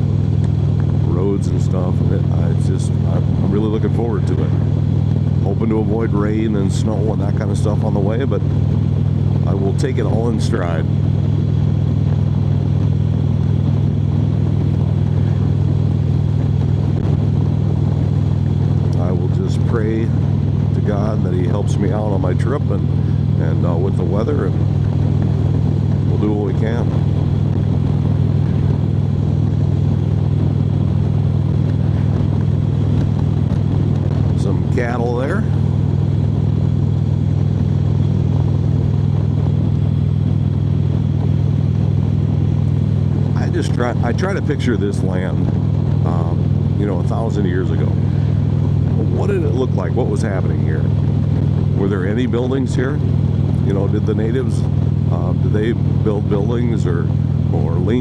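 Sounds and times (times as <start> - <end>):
motorcycle engine low rumble: 0.0 - 58.0
road and wind noise: 0.0 - 58.0.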